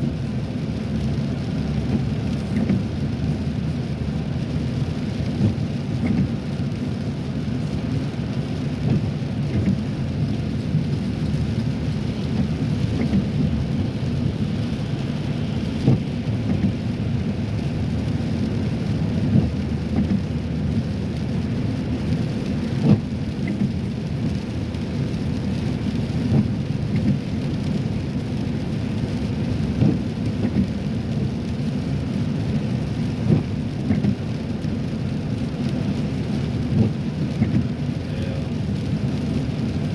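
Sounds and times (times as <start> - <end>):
tyres and engine rumble: 0.0 - 39.9.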